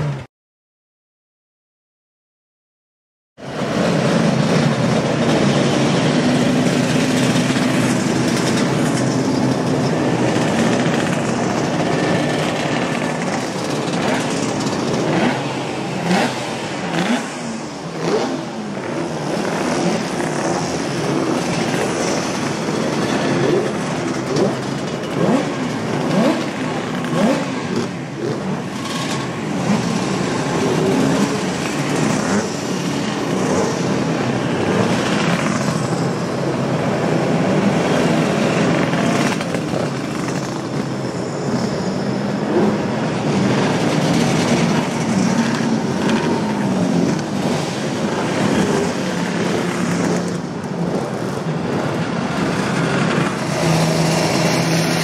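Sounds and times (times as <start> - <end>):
motorcycle engines running: 3.4 - 55.0
motorcycle revving and accelerating: 3.4 - 55.0.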